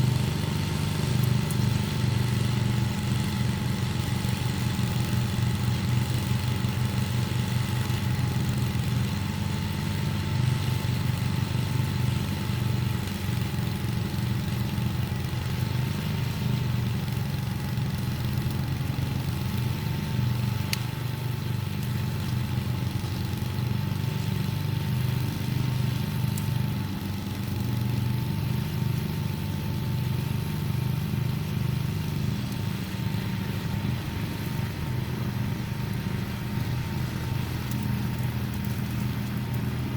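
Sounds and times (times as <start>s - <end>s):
engine running at low speed: 0.0s - 39.9s.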